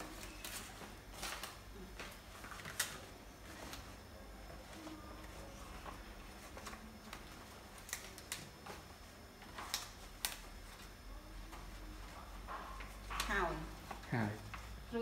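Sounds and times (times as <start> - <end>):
banana leaves rustling: 0.0 - 15.0.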